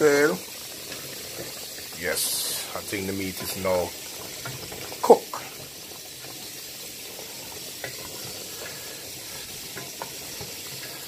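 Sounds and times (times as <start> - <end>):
stew bubbling and steaming: 0.0 - 11.0
wooden spoon stirring in pot: 0.0 - 11.0.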